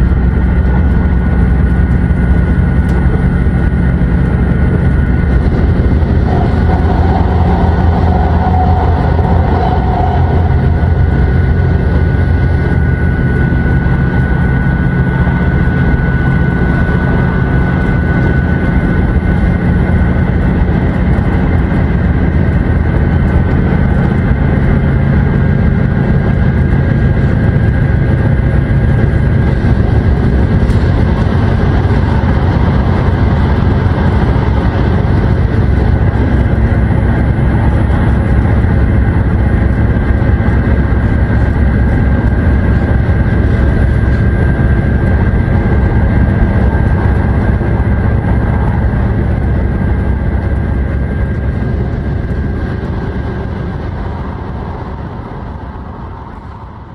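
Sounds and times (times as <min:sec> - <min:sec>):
faint steady whine: 0:00.0 - 0:56.9
train engine and wheels rumbling: 0:00.0 - 0:56.9.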